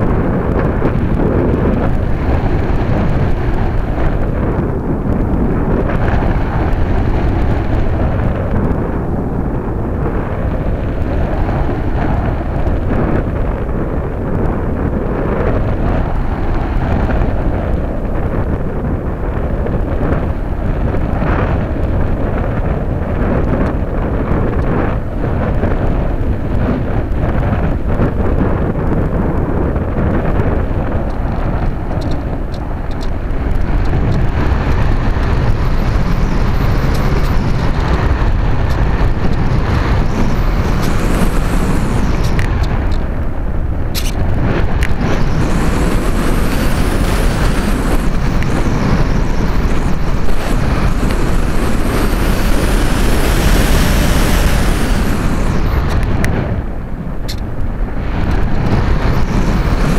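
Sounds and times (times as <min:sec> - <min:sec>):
wind rumbling over camera: 0:00.0 - 0:59.9.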